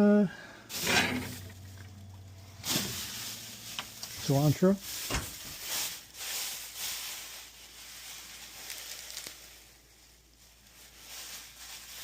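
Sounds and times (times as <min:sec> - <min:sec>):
herbs rustling: 0:00.7 - 0:12.0.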